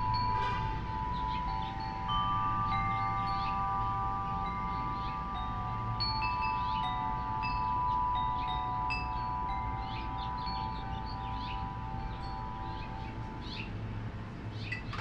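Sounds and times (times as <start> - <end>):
wind chime ringing: 0.0 - 15.0.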